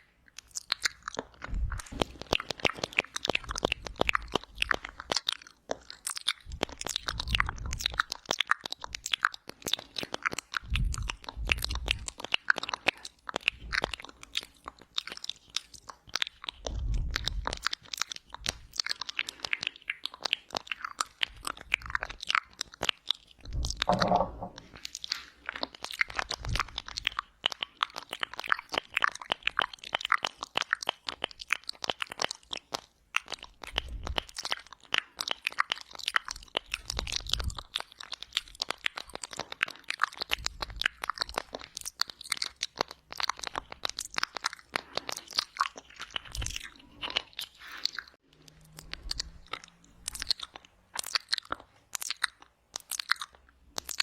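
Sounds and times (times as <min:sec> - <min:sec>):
wet mouth sounds: 0:00.0 - 0:54.0.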